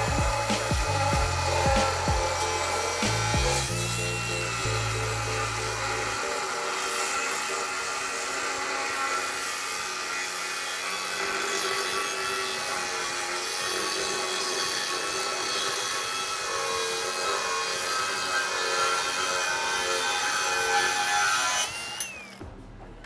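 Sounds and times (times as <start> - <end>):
power tool grinding steel: 0.0 - 22.4.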